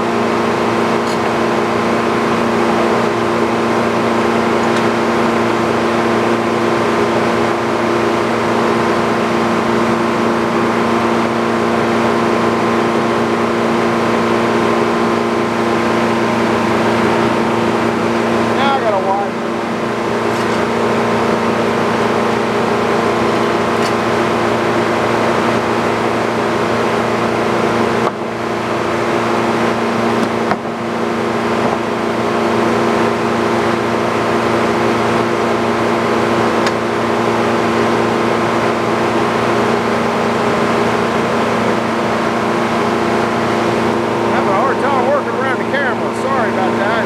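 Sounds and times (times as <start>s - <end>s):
sawmill engine running under load: 0.0s - 47.0s.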